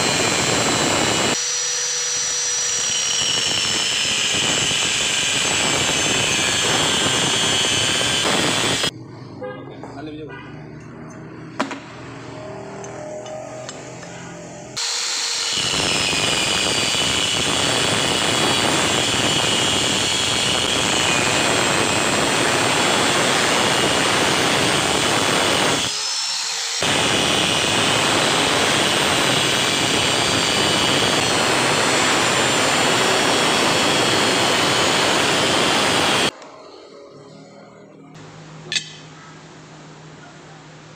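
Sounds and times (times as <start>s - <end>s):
angle grinder cutting steel: 0.0s - 8.9s, 12.2s - 36.4s.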